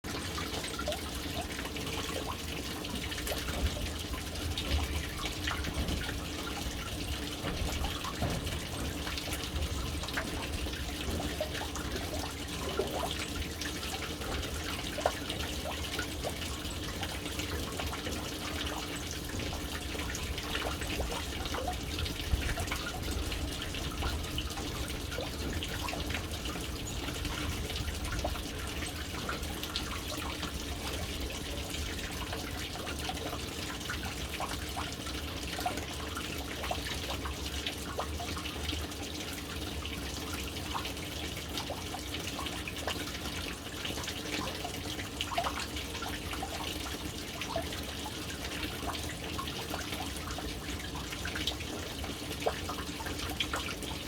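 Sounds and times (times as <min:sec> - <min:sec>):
water drips and splashes: 0:00.0 - 0:54.0
water pouring into a tank: 0:00.0 - 0:54.0.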